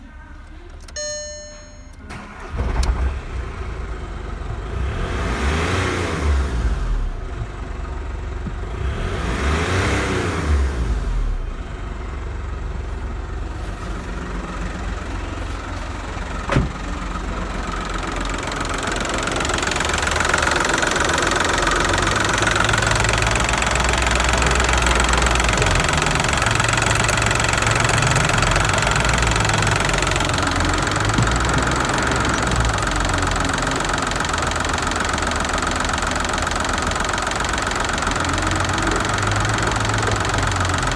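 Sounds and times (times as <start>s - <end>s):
diesel engine starting and revving: 1.8s - 40.9s
diesel engine idling with knock: 2.5s - 40.9s.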